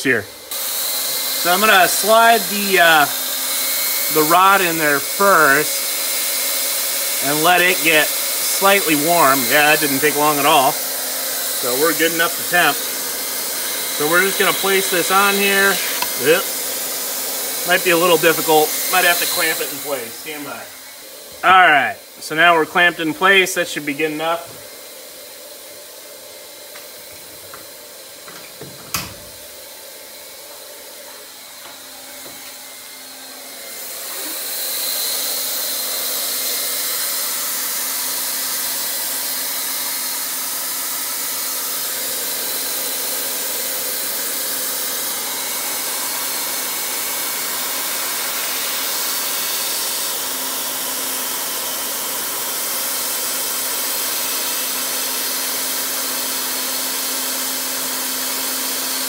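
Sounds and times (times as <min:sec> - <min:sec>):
hot-air blower hissing: 0:00.0 - 0:59.0.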